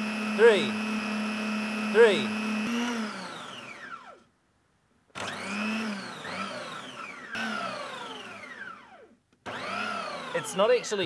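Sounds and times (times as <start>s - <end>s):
blender motor whining: 0.0s - 4.3s, 5.2s - 11.0s.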